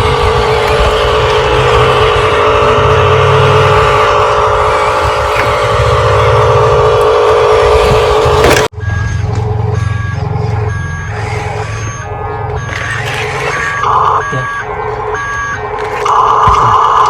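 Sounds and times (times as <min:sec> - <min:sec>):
reversing beeps: 0:00.0 - 0:17.0
toy vehicle motor whine: 0:00.0 - 0:17.0.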